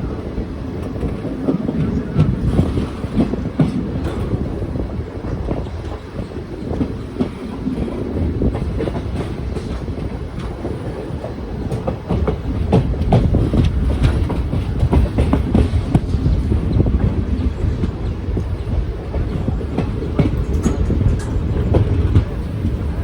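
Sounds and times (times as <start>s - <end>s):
train rumble: 0.0s - 23.0s
wheels clacking over rail joints: 0.7s - 23.0s.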